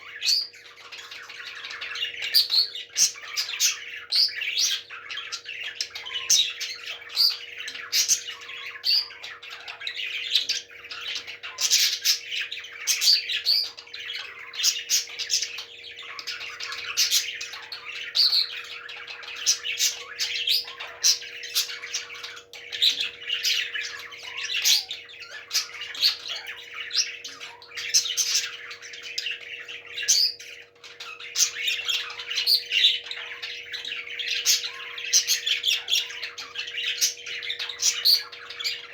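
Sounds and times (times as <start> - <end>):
parrots squawking: 0.0 - 38.9.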